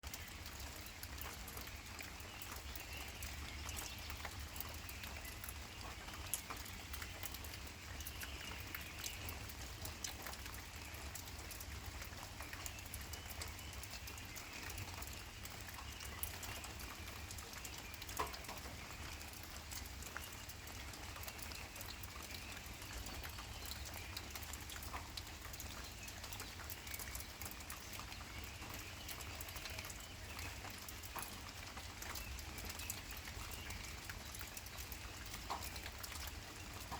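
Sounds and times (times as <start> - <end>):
light ticks and taps: 0.0 - 36.9.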